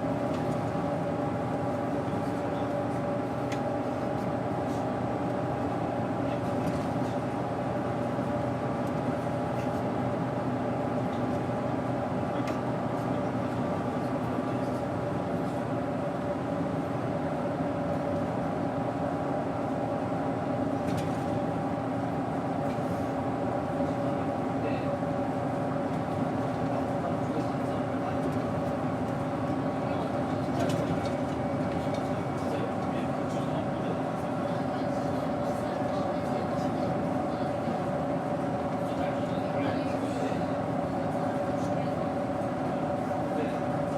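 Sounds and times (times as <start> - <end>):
bus engine running: 0.0 - 43.9.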